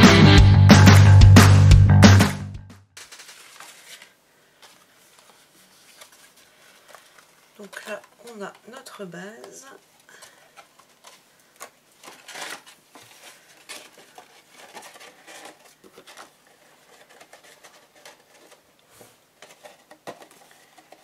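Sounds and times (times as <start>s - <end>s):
cardstock rustling and scraping: 3.0s - 21.0s.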